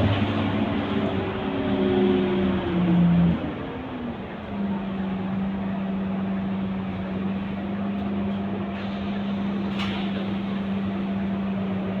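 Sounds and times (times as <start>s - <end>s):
bus diesel engine drone: 0.0s - 12.0s
bus rumble: 0.0s - 12.0s.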